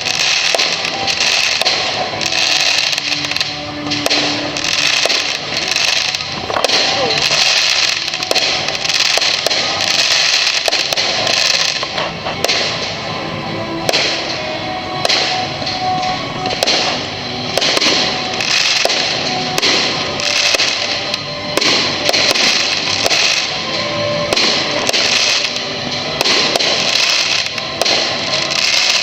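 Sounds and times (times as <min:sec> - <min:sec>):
fireworks bangs: 0:00.0 - 0:29.0
fireworks crackling and fizzing: 0:00.0 - 0:29.0.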